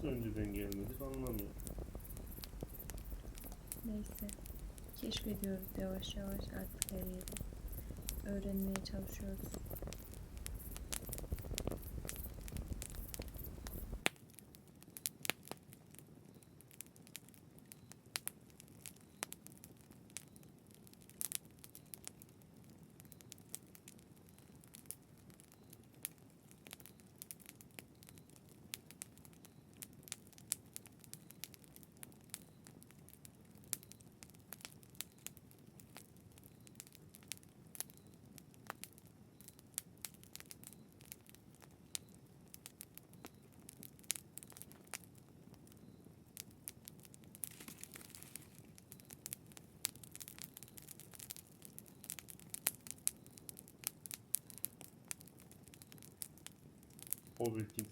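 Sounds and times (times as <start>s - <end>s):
campfire crackling and popping: 0.0s - 57.9s
faint steady hiss: 0.0s - 57.9s.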